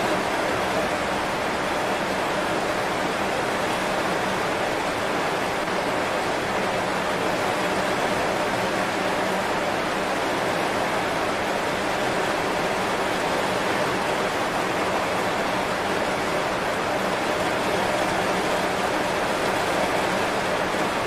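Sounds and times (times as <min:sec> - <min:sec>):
heavy rain on leaves: 0:00.0 - 0:21.0.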